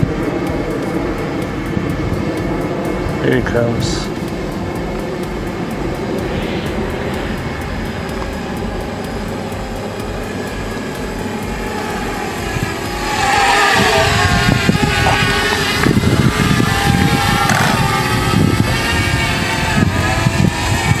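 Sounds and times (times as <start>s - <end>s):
drone propellers buzzing: 0.0s - 21.0s.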